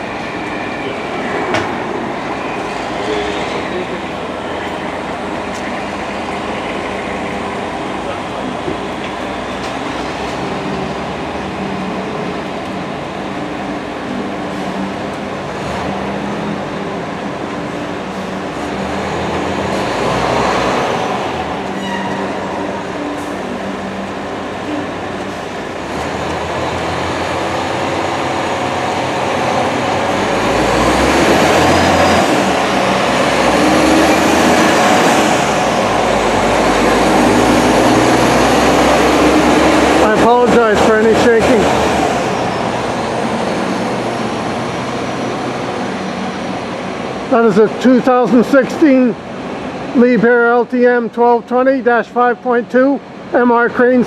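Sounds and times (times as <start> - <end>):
crane diesel engine running: 0.0 - 50.0.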